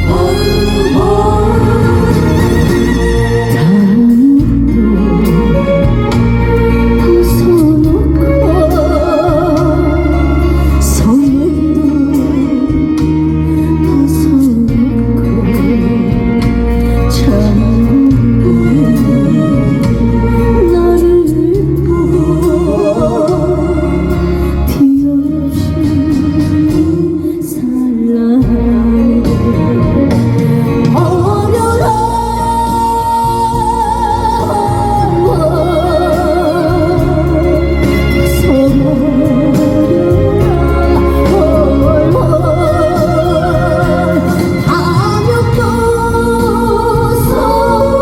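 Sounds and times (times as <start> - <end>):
amplified backing band: 0.0 - 48.0
woman singing: 0.0 - 48.0.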